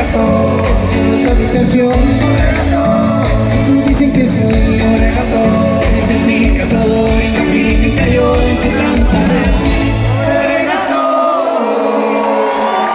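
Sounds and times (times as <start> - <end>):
bass and drums: 0.0 - 10.6
pop song with singing: 0.0 - 12.9.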